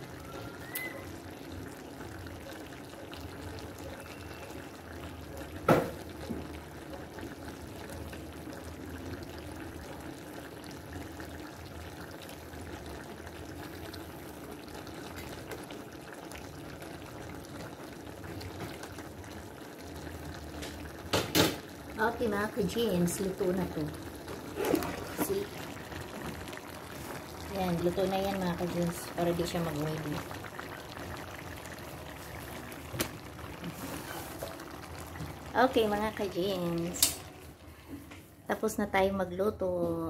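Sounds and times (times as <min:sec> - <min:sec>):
stew bubbling in pot: 0:00.0 - 0:38.5.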